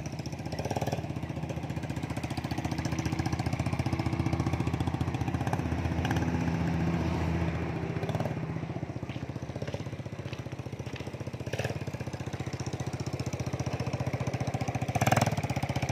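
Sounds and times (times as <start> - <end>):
motorcycle engine puttering: 0.0 - 6.6, 8.0 - 15.9.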